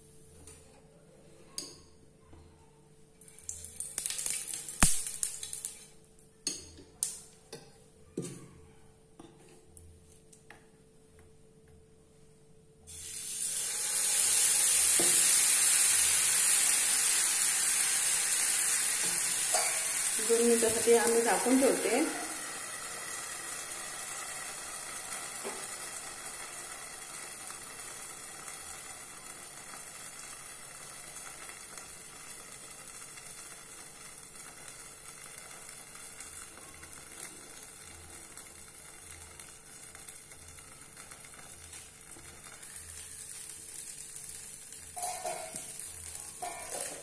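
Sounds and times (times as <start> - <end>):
batter sizzling in a pan: 3.2 - 6.7, 12.8 - 47.0.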